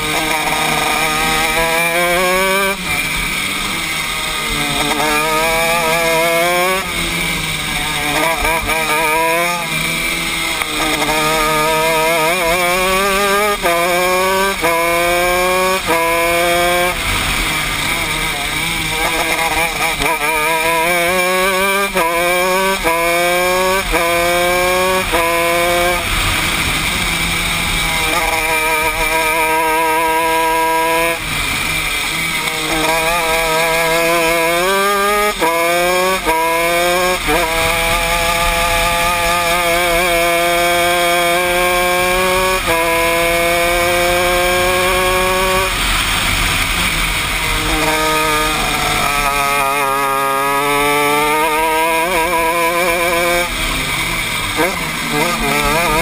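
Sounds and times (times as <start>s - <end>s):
kart engine revving and shifting: 0.0s - 56.0s.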